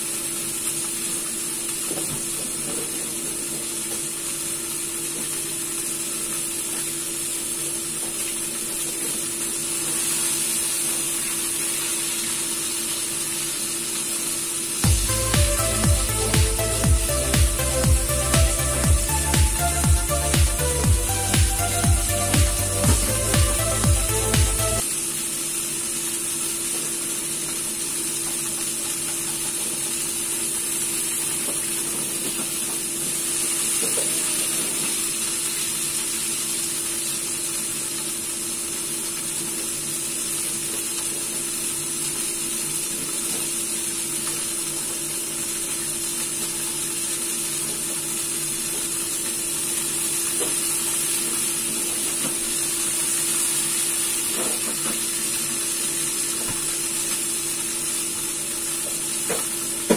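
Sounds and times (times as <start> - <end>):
chicken frying in oil: 0.0 - 59.9.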